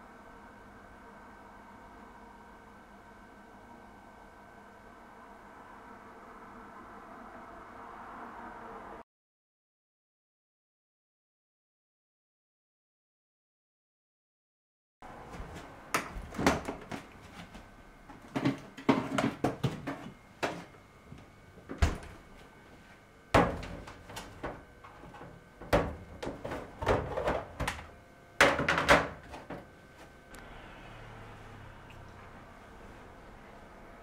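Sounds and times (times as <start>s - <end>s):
faint steady hum: 0.0s - 9.0s, 15.0s - 34.0s.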